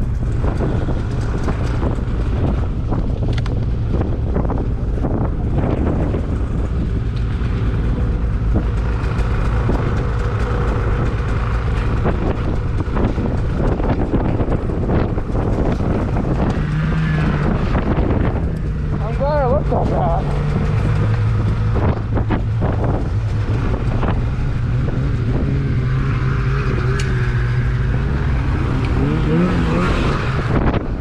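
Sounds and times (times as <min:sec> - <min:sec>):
snowmobile engine idling: 0:00.0 - 0:30.2.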